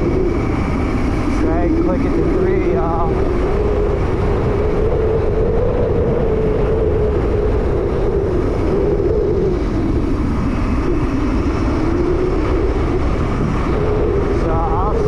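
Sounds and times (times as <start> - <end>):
electric motorbike whine: 0.0 - 15.0
wind and tyre rumble: 0.0 - 15.0.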